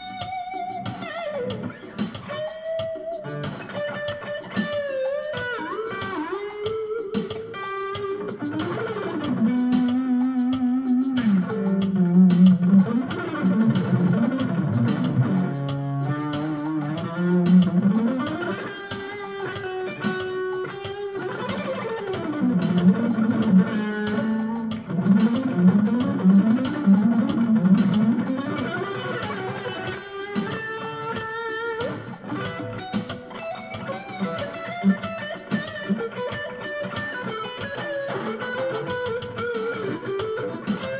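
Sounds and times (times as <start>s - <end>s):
crunchy electric guitar lines: 0.0s - 40.9s
drum machine latin-funk groove: 0.0s - 40.9s.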